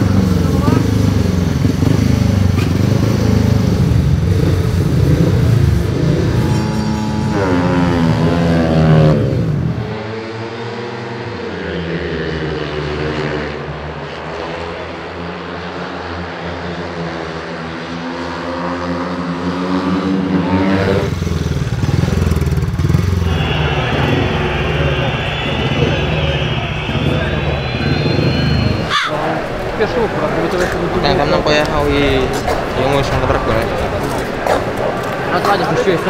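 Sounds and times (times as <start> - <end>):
motorcycle engines revving high: 0.0 - 36.0.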